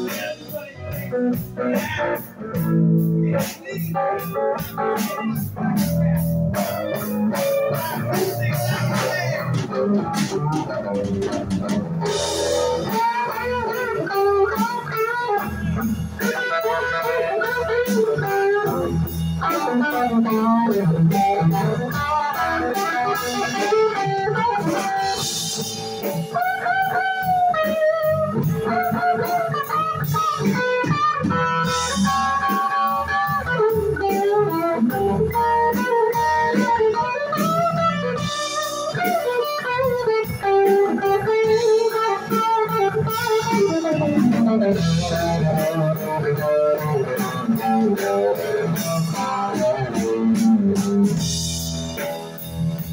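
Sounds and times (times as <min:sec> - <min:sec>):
bass guitar: 0:00.0 - 0:52.9
drum kit: 0:00.0 - 0:52.9
electric guitar lead: 0:00.0 - 0:52.9.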